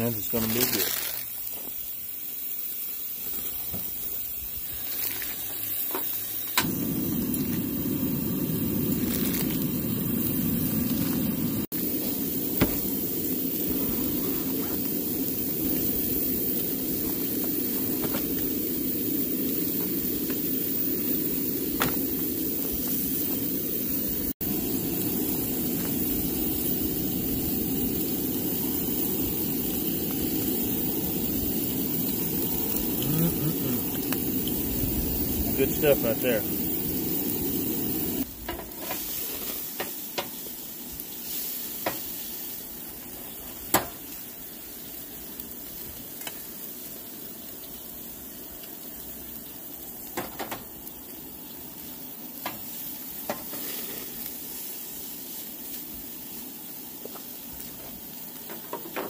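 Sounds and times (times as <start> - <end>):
food sizzling on grill: 0.0 - 59.0.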